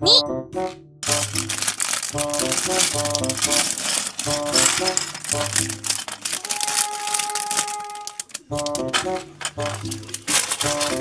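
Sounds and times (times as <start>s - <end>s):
background music with repeating tune: 0.0s - 11.0s
plastic bag crinkling: 1.0s - 11.0s
plastic bricks rattling: 1.0s - 11.0s.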